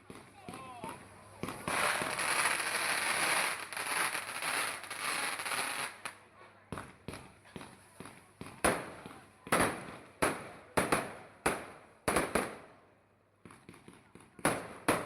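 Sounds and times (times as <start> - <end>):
fireworks bangs: 0.0 - 12.7
fireworks crackling: 0.0 - 12.8.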